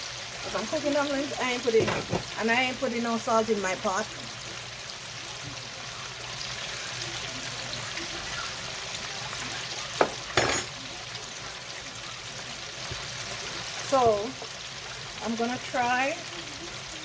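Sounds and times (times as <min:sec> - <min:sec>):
chicken wings deep-frying in oil: 0:00.0 - 0:17.0.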